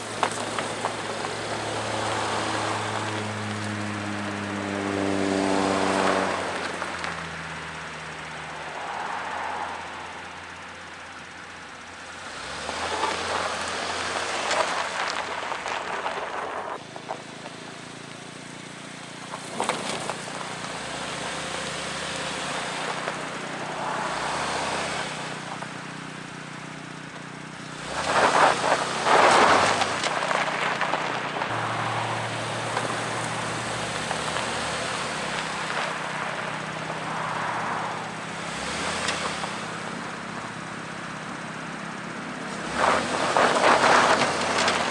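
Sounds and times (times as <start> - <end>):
low engine hum: 0.0 - 44.9
tyres on loose gravel: 0.0 - 44.9.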